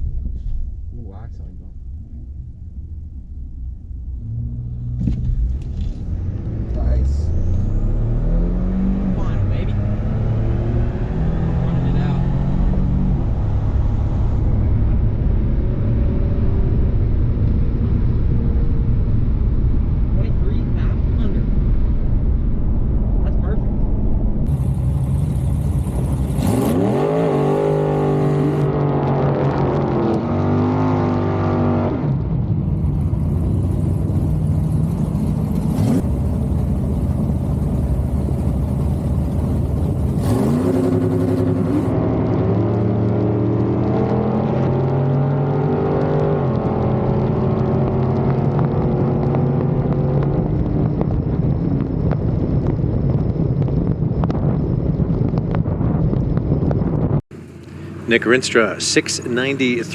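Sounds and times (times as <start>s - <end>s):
road noise: 0.0s - 59.9s
vehicle engine accelerating: 2.5s - 59.9s.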